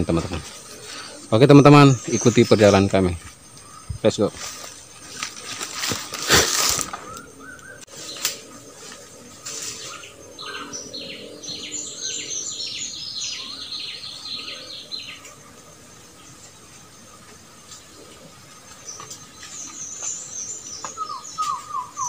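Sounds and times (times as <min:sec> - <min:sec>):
bird singing falling notes: 0:00.0 - 0:15.4, 0:17.7 - 0:22.0.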